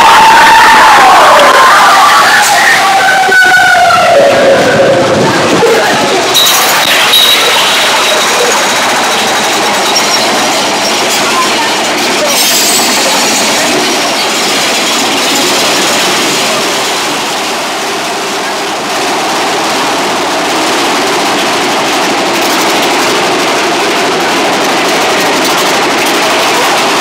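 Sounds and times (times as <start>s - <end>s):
roller coaster wheels on rails: 0.0s - 27.0s.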